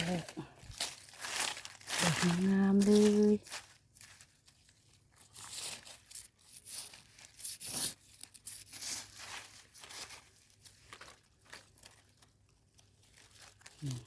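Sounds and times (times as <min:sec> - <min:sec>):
dry leaves and soil crunching: 0:00.0 - 0:14.0.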